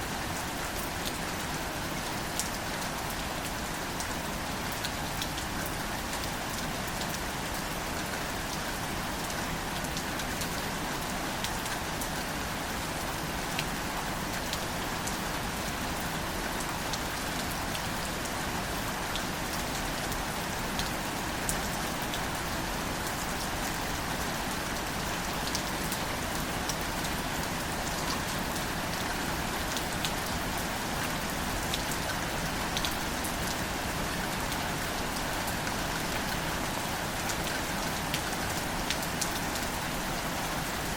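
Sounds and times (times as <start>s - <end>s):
gentle rain on foliage: 0.0s - 40.9s.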